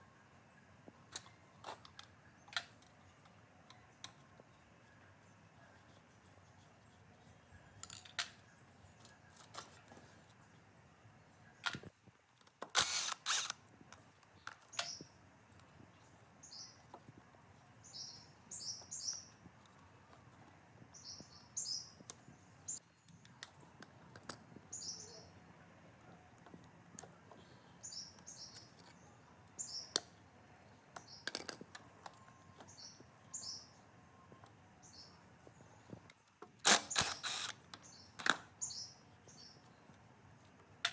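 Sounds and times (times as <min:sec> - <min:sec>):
small birds chirping: 0:00.2 - 0:12.0, 0:13.0 - 0:40.8.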